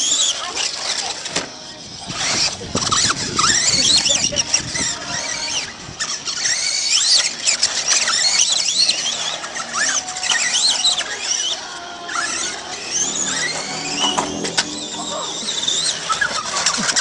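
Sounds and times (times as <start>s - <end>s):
rc car electric motors whining: 0.0s - 17.0s.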